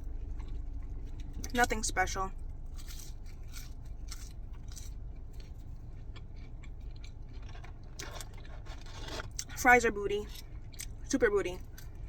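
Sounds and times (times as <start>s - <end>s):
fries being chewed: 0.0s - 12.0s
steady low hum: 0.0s - 12.0s.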